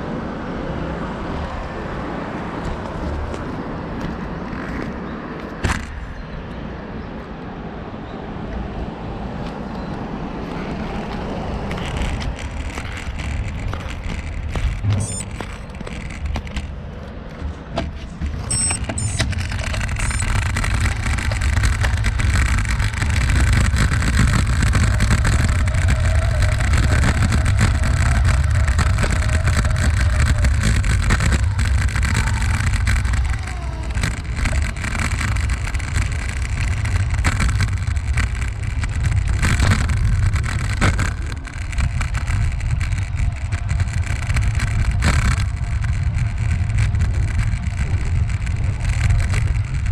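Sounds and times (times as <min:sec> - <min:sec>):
bicycle rolling noise: 0:00.0 - 0:49.9
wind rumble on microphone: 0:00.0 - 0:49.9.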